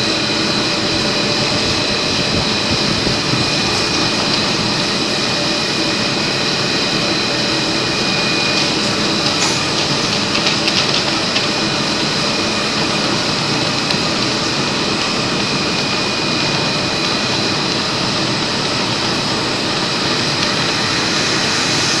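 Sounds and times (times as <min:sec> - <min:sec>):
high-pitched whining tones: 0:00.0 - 0:22.0
loud machine noise: 0:00.0 - 0:22.0.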